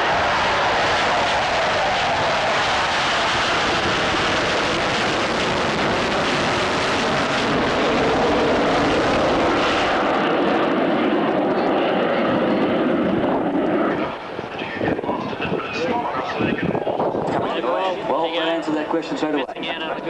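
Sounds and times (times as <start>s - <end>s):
jet aircraft passing low: 0.0s - 20.0s.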